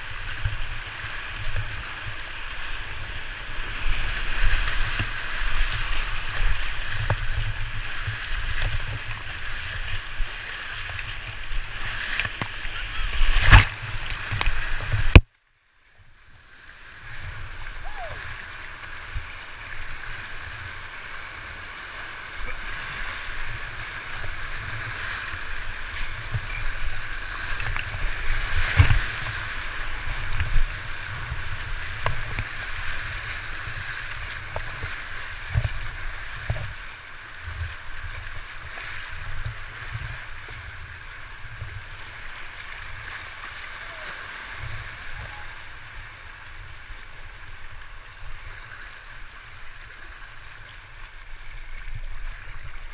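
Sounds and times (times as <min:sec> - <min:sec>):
paddle splashes: 0:00.0 - 0:15.2, 0:16.4 - 0:52.9
whitewater rapids rushing: 0:00.0 - 0:15.2, 0:16.9 - 0:48.2.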